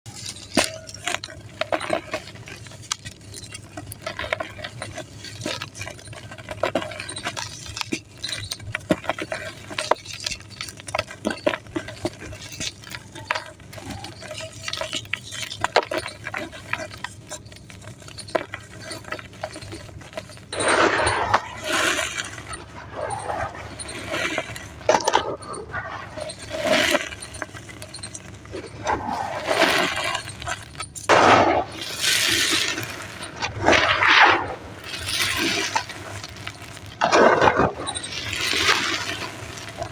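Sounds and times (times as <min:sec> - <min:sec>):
crumbling crunch: 0:00.0 - 0:39.9
wet mud crumbling and crackling: 0:00.0 - 0:39.9.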